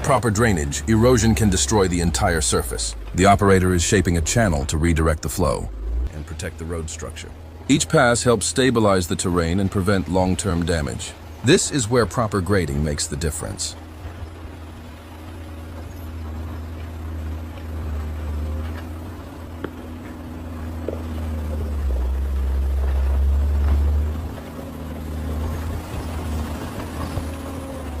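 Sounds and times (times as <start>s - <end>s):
heavy equipment engine rumbling: 0.0s - 28.0s.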